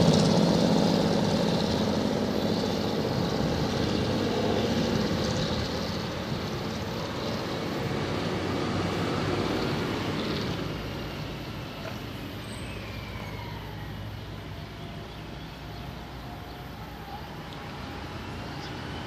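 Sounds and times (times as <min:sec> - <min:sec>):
diesel train engines pulling away: 0:00.0 - 0:19.0.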